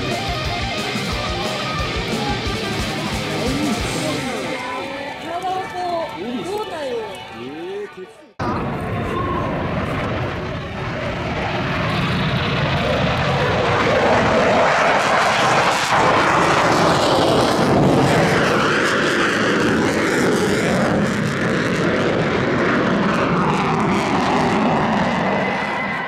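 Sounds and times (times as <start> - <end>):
jet aircraft flying past: 0.0 - 6.2, 8.4 - 26.0.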